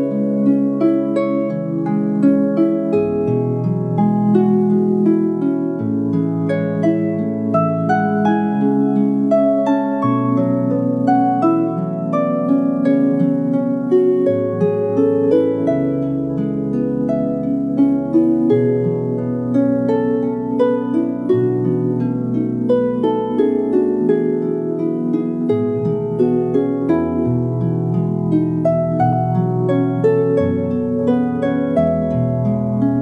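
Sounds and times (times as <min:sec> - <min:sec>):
plucked lyre music: 0:00.0 - 0:33.0.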